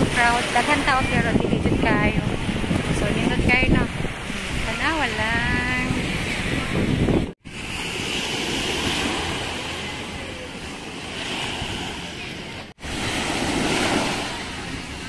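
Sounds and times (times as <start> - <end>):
waves washing up shore: 0.0 - 15.0.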